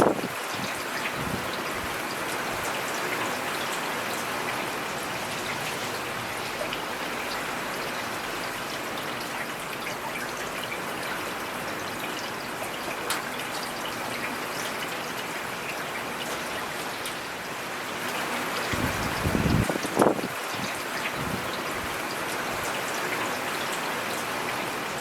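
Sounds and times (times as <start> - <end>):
rain hissing in a forest: 0.0 - 25.0.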